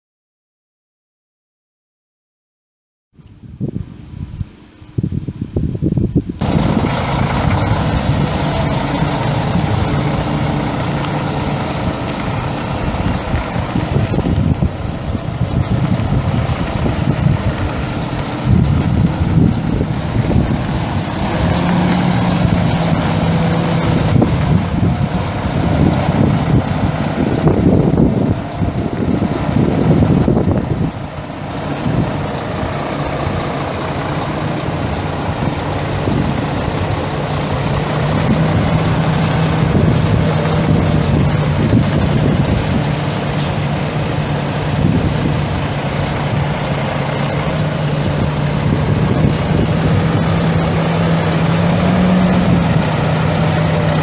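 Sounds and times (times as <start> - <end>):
diesel truck engine humming: 3.9 - 54.0.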